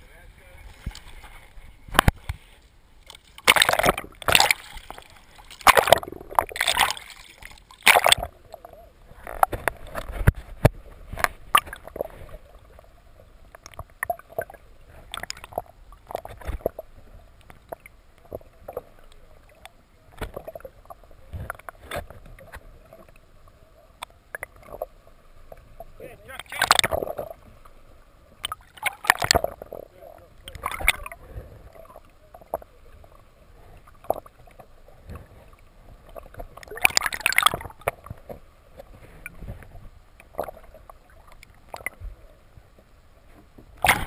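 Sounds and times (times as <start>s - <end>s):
water splashing against camera: 0.0s - 23.2s, 24.0s - 42.7s, 43.3s - 44.0s
faint steady hum: 0.0s - 44.0s
muffled underwater knocks and clicks: 0.7s - 12.5s, 13.5s - 23.2s, 24.0s - 27.8s, 28.4s - 32.7s, 33.7s - 44.0s.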